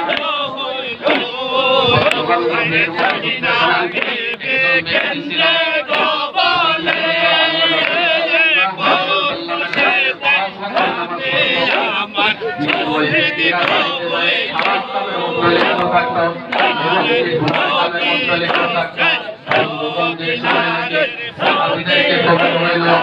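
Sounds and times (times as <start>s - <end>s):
crowd of men chanting: 0.0s - 23.0s.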